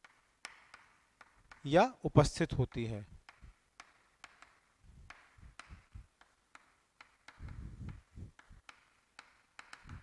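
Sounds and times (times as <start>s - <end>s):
chalk tapping on chalkboard: 0.0s - 1.8s, 2.6s - 10.0s.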